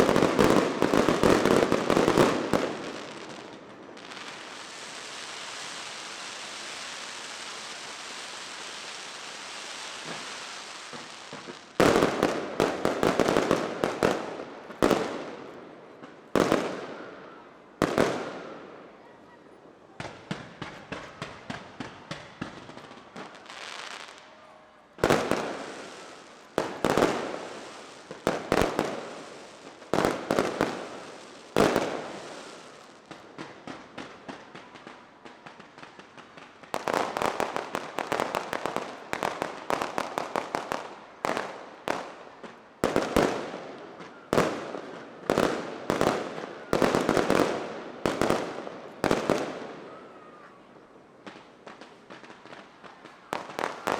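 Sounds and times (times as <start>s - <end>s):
fireworks bursting with echo: 0.0s - 53.9s.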